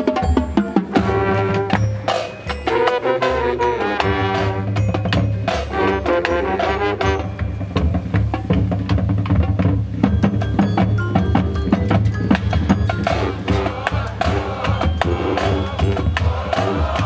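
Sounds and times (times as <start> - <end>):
marching band playing: 0.0 - 17.0
sharp percussion strikes: 0.0 - 17.0.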